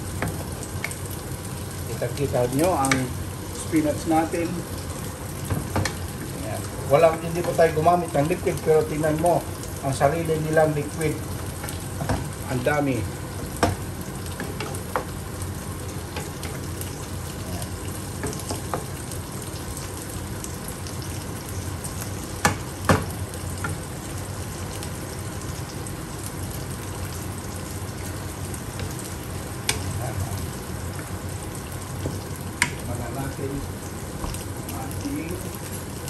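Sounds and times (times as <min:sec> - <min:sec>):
spinach sizzling in frying pan: 0:00.0 - 0:36.0.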